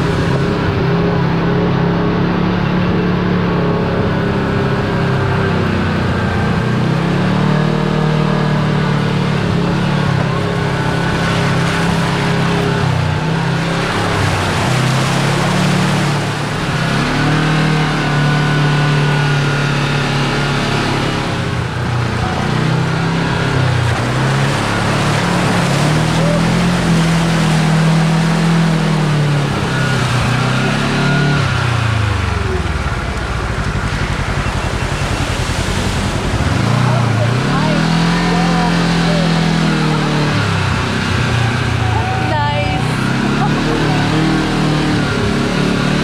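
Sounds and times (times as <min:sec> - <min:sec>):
vehicle engine driving: 0:00.0 - 0:46.0
wind and trail noise: 0:00.0 - 0:46.0.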